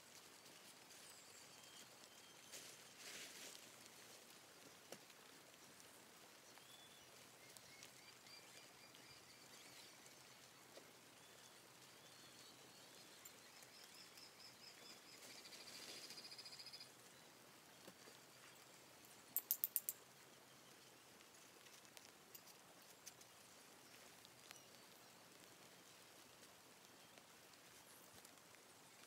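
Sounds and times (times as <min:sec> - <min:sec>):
faint rapid bird trill: 0:00.2 - 0:04.2, 0:06.4 - 0:28.2.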